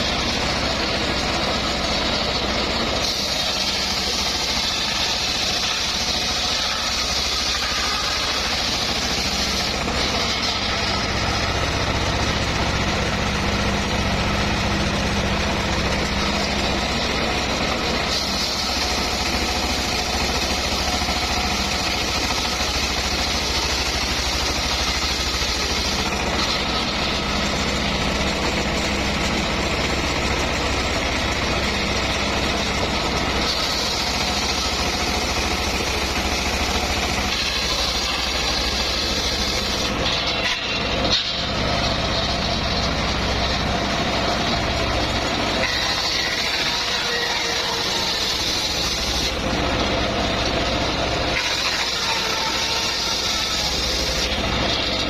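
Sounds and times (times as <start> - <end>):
saw blade cutting log: 0.0 - 55.0
sawmill engine running: 0.0 - 55.0.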